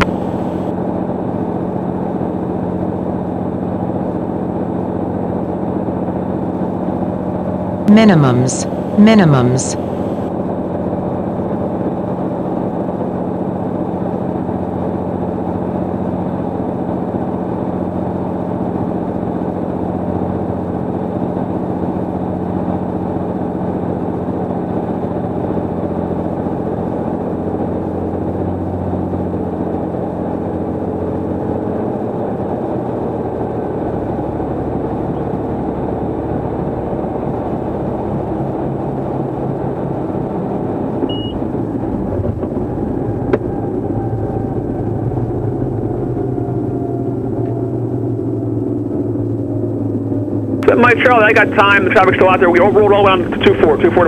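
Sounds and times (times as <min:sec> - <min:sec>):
aircraft engine and propeller droning: 0:00.0 - 0:07.9, 0:09.8 - 0:54.0.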